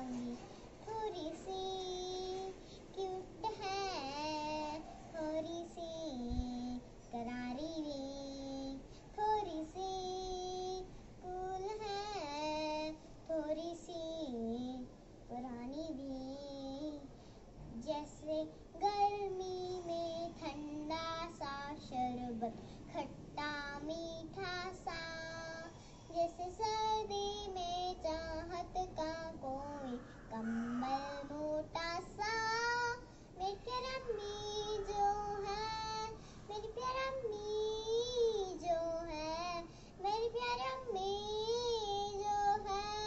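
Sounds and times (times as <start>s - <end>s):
girl singing: 0.0s - 43.0s.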